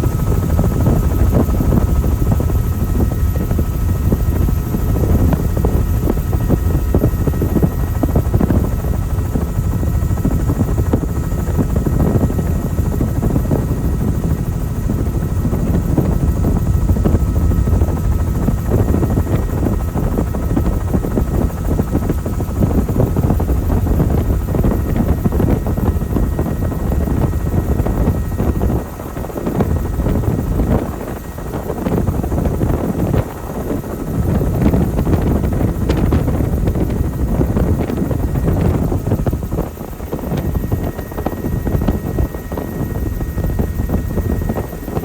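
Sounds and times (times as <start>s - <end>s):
helicopter rotor and engine rumble: 0.0s - 45.0s.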